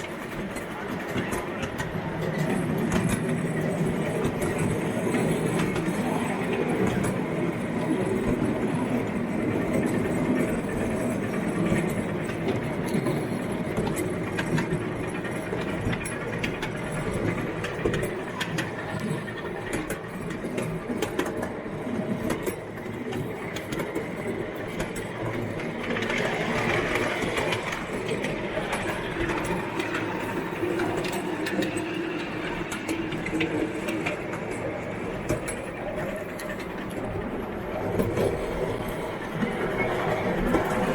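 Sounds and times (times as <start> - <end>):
model train running on track: 0.0 - 40.9
wheels clicking over rails: 0.0 - 40.9.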